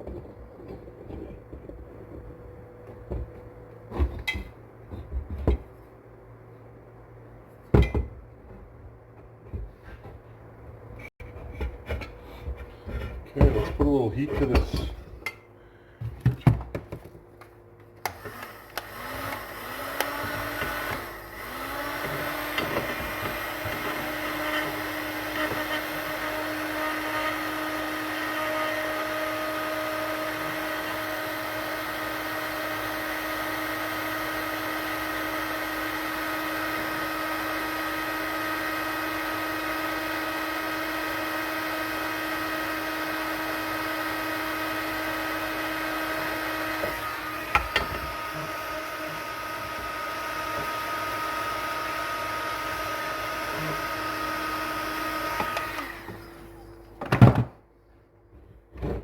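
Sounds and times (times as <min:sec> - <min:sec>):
heat gun fan whining and blowing: 0:09.9 - 0:57.4.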